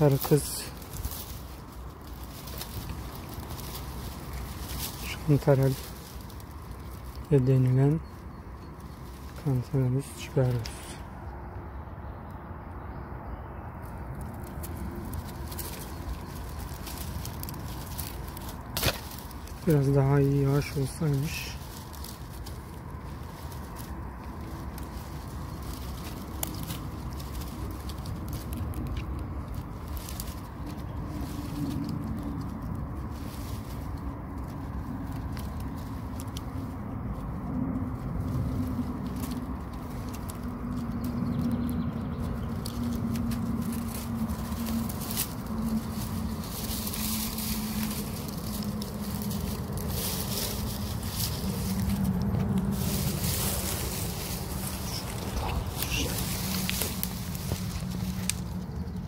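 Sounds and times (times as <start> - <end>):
dry grass crackling and rustling: 0.0 - 59.0
low drone: 0.0 - 59.0
steady low rumble: 0.0 - 59.0.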